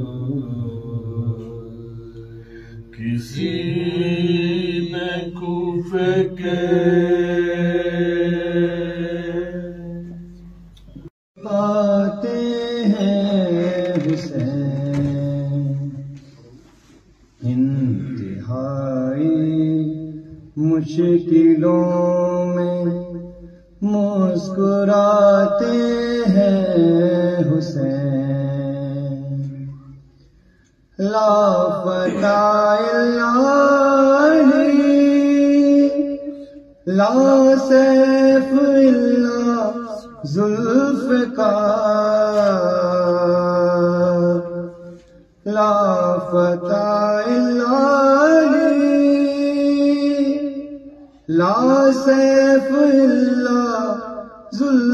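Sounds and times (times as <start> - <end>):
man chanting: 0.0 - 10.5, 11.4 - 16.6, 17.4 - 30.0, 30.9 - 54.9.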